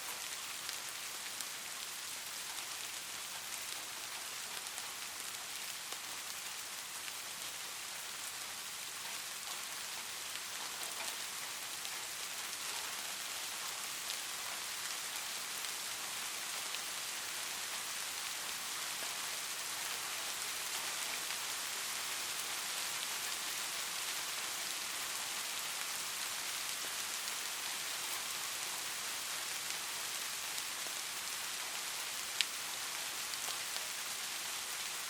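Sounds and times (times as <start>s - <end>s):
light rain: 0.0s - 35.0s.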